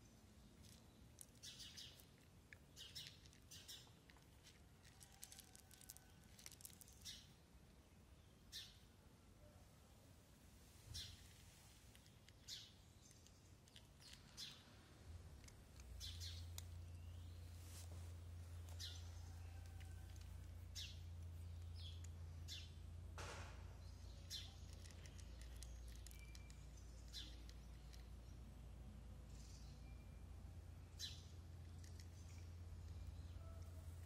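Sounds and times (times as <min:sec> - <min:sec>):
small birds chirping: 0:00.0 - 0:09.7, 0:10.8 - 0:23.0, 0:23.7 - 0:34.0
low steady hum: 0:00.0 - 0:34.0.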